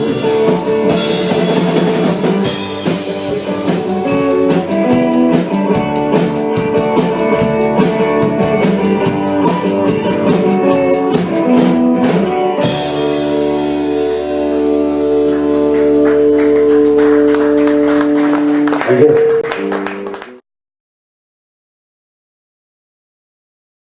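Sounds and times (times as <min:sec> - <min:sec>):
drum kit beat: 0:00.0 - 0:20.4
guitar chords: 0:00.0 - 0:20.4
live rock band playing: 0:00.0 - 0:20.4.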